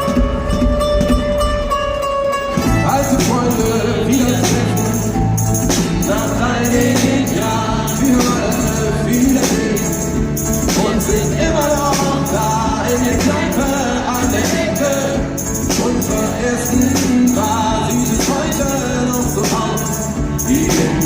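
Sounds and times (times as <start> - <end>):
live pop-rock band: 0.0 - 21.0
singing voices: 2.6 - 21.0.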